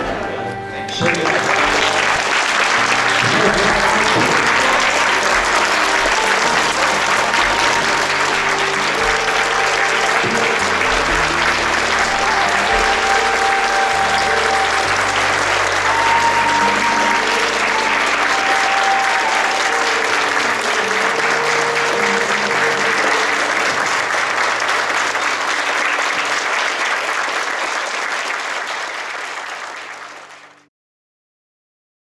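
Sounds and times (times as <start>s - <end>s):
background music: 0.0s - 26.8s
audience applauding: 0.0s - 30.7s.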